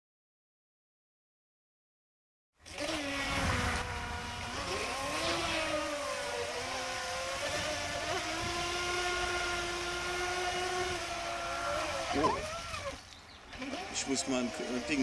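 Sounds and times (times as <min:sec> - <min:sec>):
electric boat motors whining: 0:02.6 - 0:15.0.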